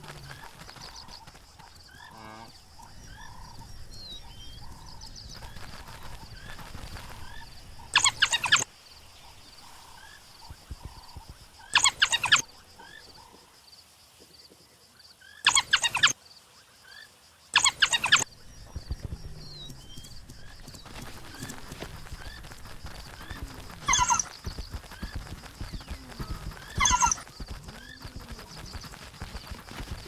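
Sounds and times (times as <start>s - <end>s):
wild dogs twittering: 0.0s - 13.4s, 15.4s - 16.2s, 17.6s - 30.0s.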